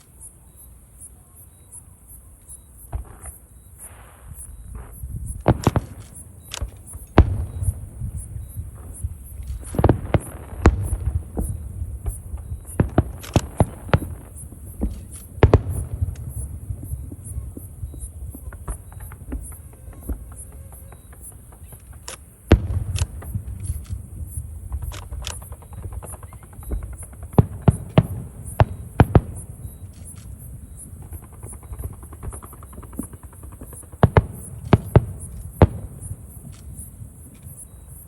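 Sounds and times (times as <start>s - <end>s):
insect chirring: 0.0s - 38.0s
fireworks bangs: 2.8s - 38.0s
fireworks crackling: 2.8s - 38.0s.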